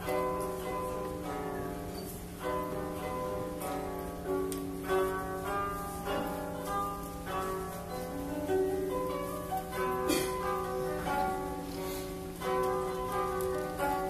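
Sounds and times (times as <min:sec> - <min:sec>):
plucked zither notes: 0:00.0 - 0:14.0.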